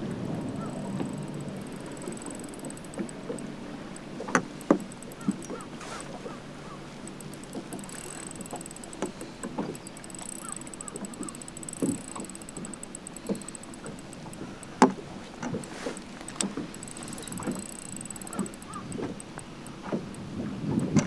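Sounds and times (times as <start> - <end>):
faint high ticking: 0.0 - 21.0
water lapping against boat hull: 0.0 - 21.0.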